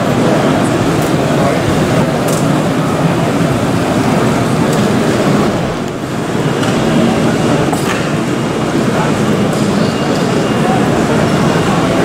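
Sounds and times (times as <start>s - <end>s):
murmur of many voices: 0.0s - 12.0s.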